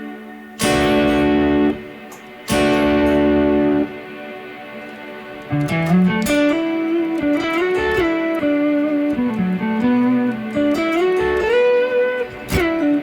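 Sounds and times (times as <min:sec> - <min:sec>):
sharp plucked guitar note: 0:00.0 - 0:04.3, 0:05.4 - 0:13.0
electric guitar sustained notes: 0:00.0 - 0:13.0.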